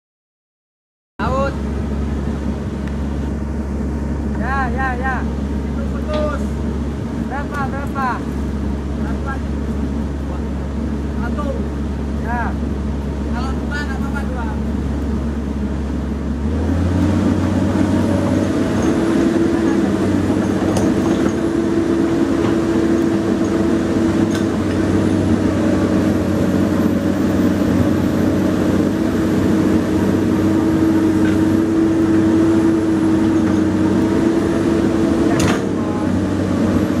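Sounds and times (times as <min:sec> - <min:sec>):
excavator diesel engine running: 0:01.2 - 0:37.0
steady whine: 0:01.2 - 0:37.0.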